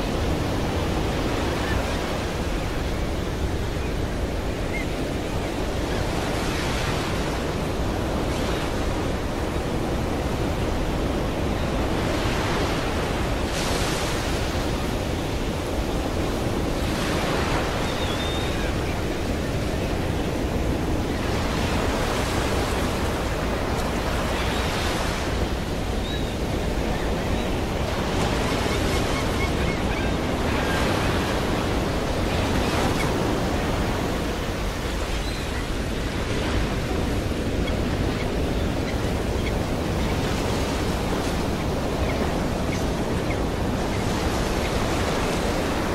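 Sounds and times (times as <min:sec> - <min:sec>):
ocean waves breaking: 0:00.0 - 0:45.9.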